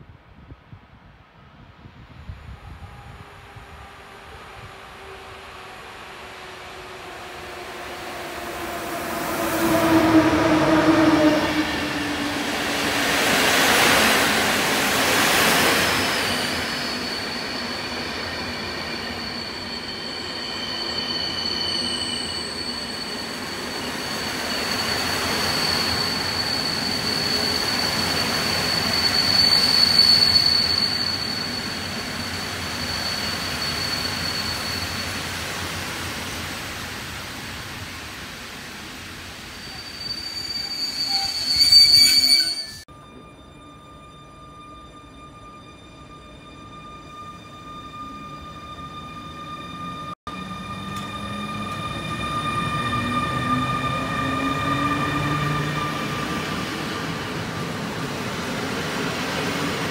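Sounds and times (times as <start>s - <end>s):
high-pitched wheel squeal: 4.3s - 14.8s, 15.4s - 35.3s, 39.4s - 59.9s.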